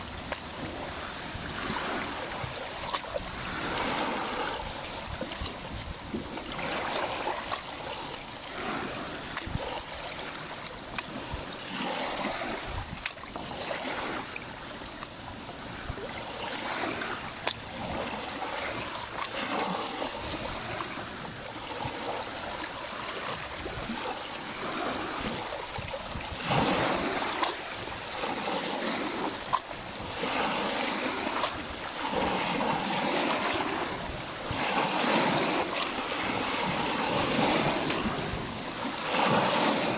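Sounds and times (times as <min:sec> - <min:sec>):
waves lapping at shore: 0:00.0 - 0:39.9.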